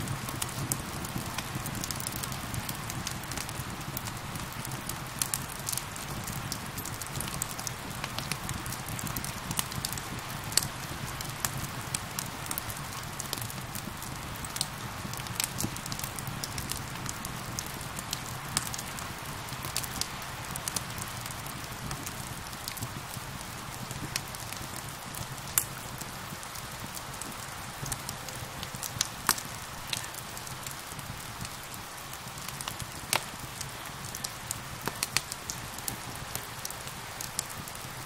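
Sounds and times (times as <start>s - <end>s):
steady rain: 0.0s - 38.0s
wood fire crackling: 0.0s - 38.0s.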